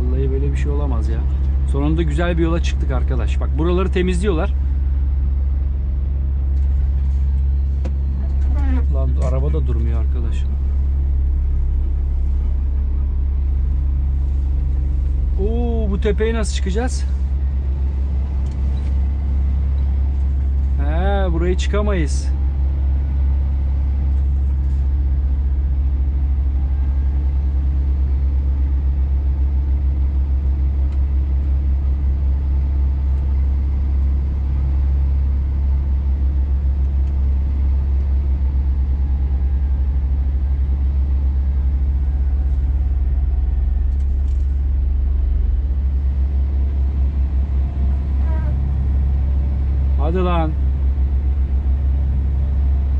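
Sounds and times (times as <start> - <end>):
truck diesel engine droning: 0.0 - 52.9.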